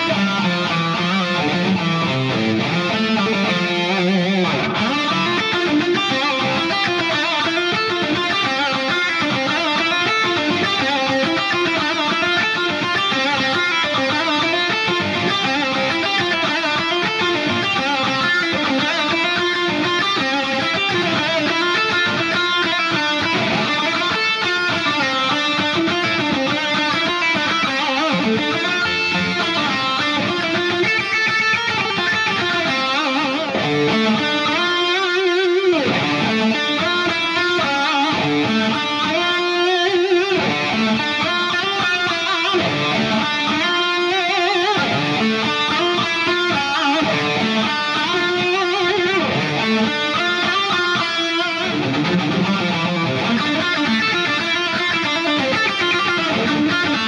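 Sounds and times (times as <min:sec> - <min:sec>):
electric guitar playing fast runs: 0:00.0 - 0:57.0.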